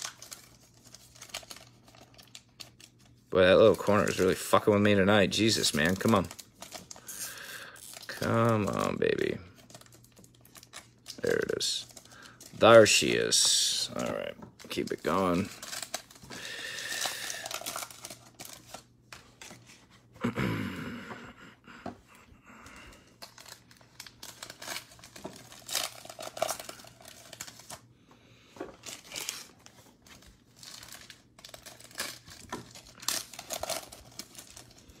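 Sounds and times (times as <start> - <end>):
foil wrapper crinkling: 0.0 - 19.6, 22.9 - 27.9, 28.6 - 35.0.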